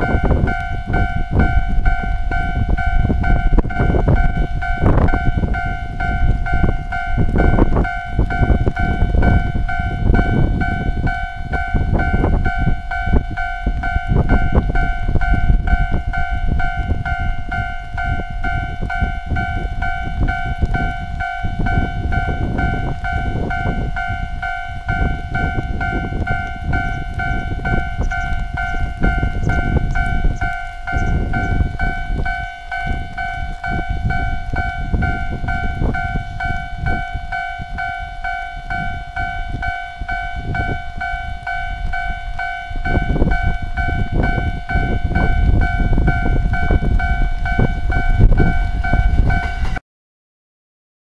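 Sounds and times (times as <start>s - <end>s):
level-crossing bell dinging: 0.0s - 49.8s
loud low rumbling: 0.0s - 49.8s.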